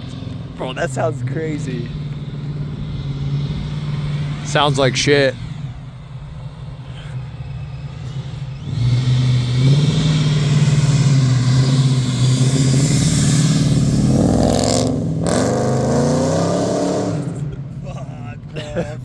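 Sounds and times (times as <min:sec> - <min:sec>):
car engine revving high: 0:00.0 - 0:19.0
supercharger whine: 0:00.0 - 0:19.0.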